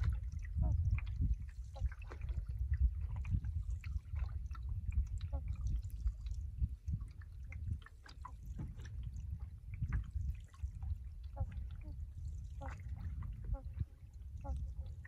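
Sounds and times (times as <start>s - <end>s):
steady low rumble: 0.0s - 15.0s
water lapping and dripping: 0.0s - 15.0s.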